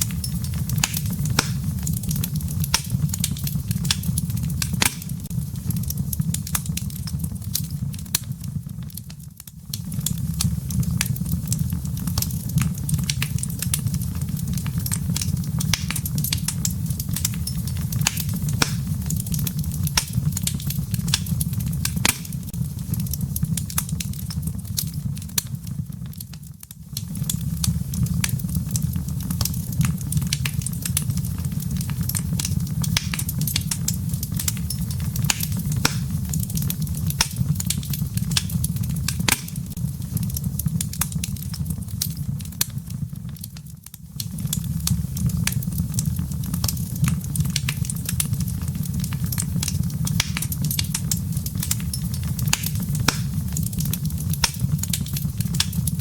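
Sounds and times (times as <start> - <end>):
low rumble of burning logs: 0.0 - 56.0
wood fire crackling and popping: 0.0 - 56.0.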